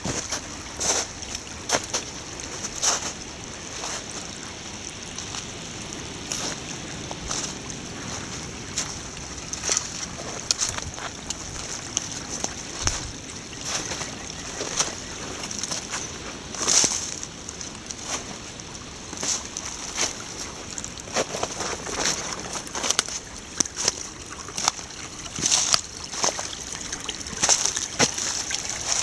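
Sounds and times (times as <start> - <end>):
brook babbling over gravel: 0.0 - 29.0.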